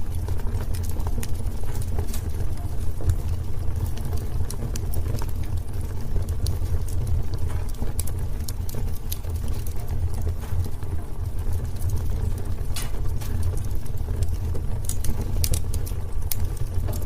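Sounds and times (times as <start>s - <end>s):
low rumble of fire: 0.0s - 17.0s
wood fire crackling: 0.0s - 17.0s.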